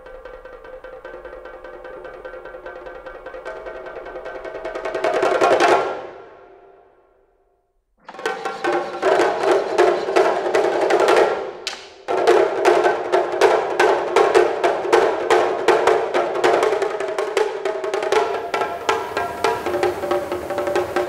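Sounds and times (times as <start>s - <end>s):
taiko drums played fast: 0.0s - 6.3s, 8.1s - 21.0s.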